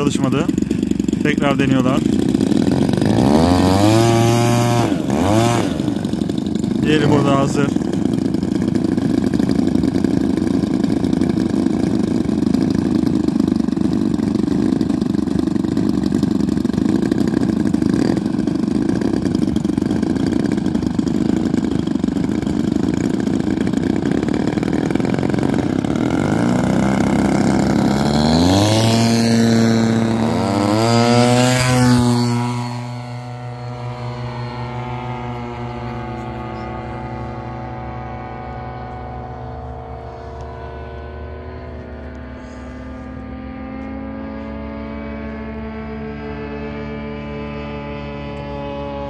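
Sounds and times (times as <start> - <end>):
model airplane engine running: 0.0 - 49.0.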